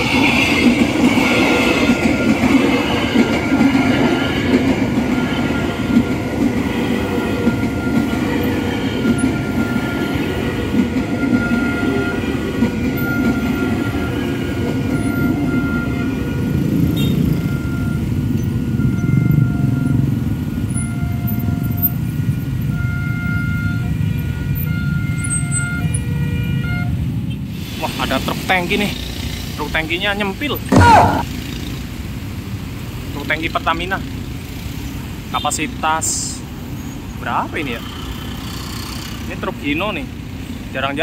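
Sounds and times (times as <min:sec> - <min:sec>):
train wheels rumbling on rails: 0:00.0 - 0:24.0, 0:27.5 - 0:40.8.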